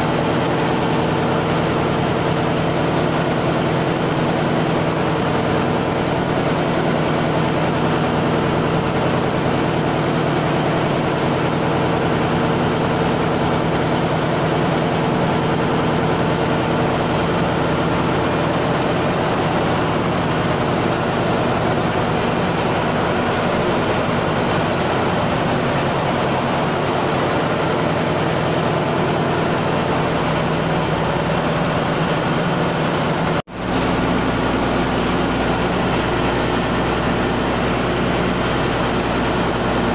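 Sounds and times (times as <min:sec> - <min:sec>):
engine room machinery drone: 0:00.0 - 0:39.9.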